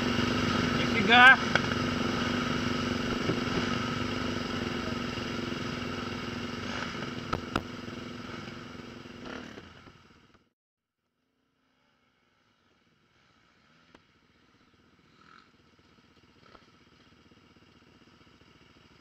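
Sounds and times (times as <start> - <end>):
dirt bike engine idling: 0.0 - 10.5, 11.4 - 19.0.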